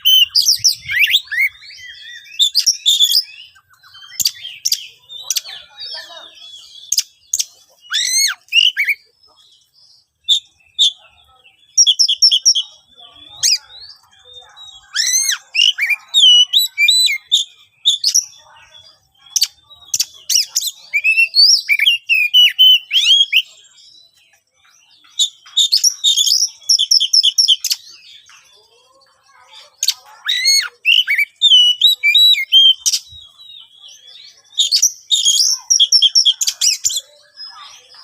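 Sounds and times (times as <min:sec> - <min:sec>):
bird singing harsh varied song: 0:00.0 - 0:38.0.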